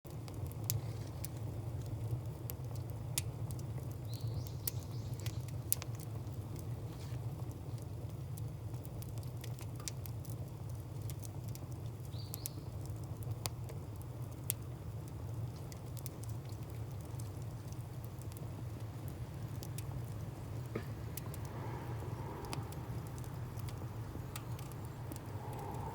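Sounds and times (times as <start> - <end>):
fire low rumble: 0.1 - 25.9.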